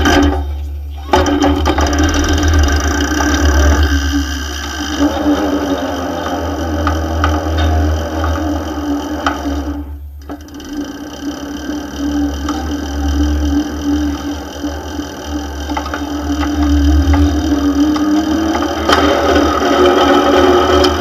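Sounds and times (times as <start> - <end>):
belt and pulleys whirring: 0.0 - 21.0
low hum: 0.0 - 21.0.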